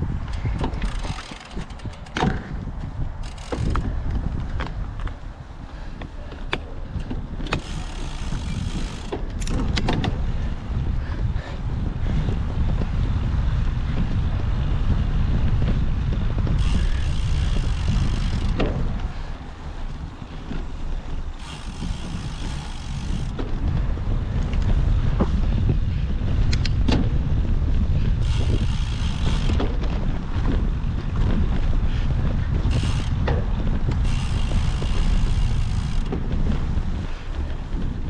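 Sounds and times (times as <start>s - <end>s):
bike clicks and rattles: 0.0s - 38.0s
wind rushing over microphone: 0.0s - 38.0s.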